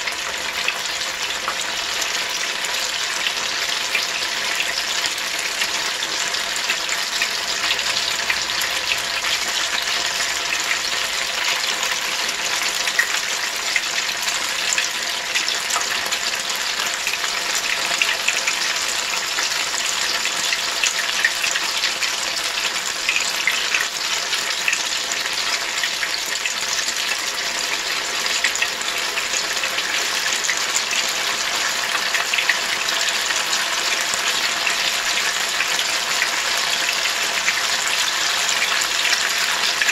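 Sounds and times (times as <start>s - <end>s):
batter sizzling in oil: 0.0s - 39.9s.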